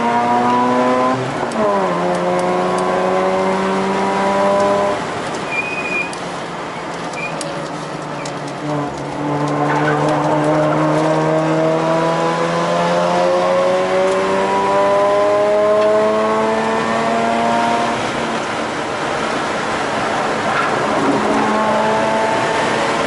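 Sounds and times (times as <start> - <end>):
car engine under throttle: 0.0 - 23.0.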